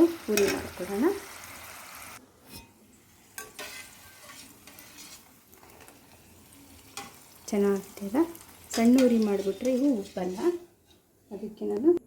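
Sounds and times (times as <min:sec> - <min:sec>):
deep-frying sizzle in oil: 0:00.0 - 0:02.2, 0:03.0 - 0:10.8.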